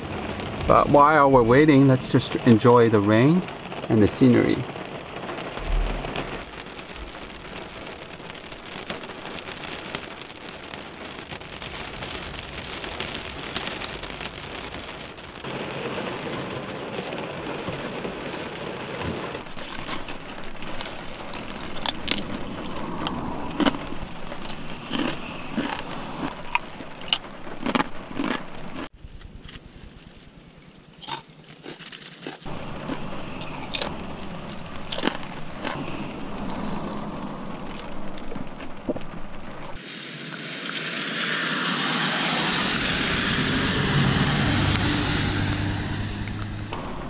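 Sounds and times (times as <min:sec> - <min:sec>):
rain drumming on car roof: 0:00.0 - 0:28.8, 0:32.4 - 0:47.0.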